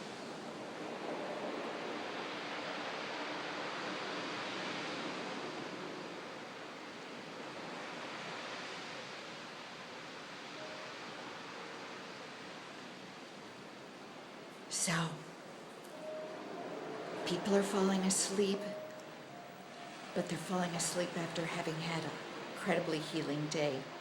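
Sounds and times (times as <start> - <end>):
distant ocean waves breaking: 0.0 - 24.0.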